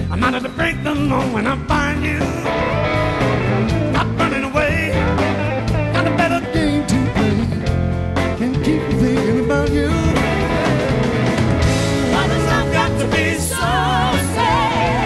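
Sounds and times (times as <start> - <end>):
blues-rock band playing live: 0.0 - 15.0
electric lead guitar bending notes: 0.0 - 15.0.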